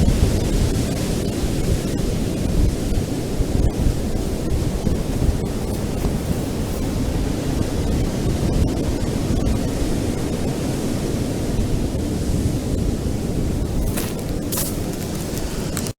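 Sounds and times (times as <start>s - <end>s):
ocean surf on beach: 0.0s - 15.9s.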